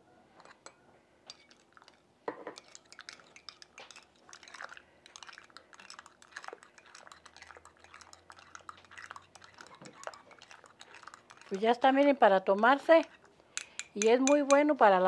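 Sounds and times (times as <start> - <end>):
teaspoon clinking against a cup: 0.4 - 15.0.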